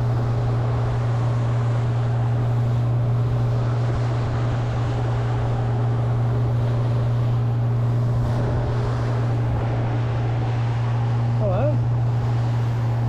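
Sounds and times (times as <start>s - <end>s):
boat motor humming: 0.0s - 13.0s
wind and water rushing: 0.0s - 13.0s.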